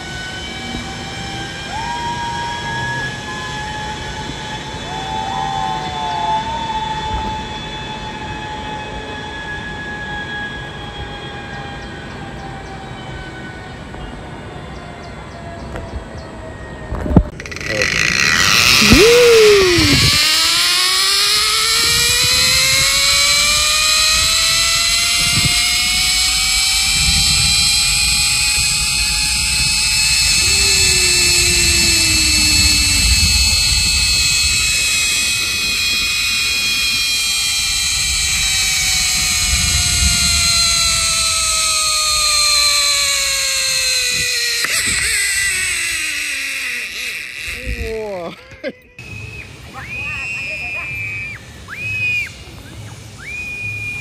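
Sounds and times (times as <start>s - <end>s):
whirring mechanical whine: 0.0s - 54.0s.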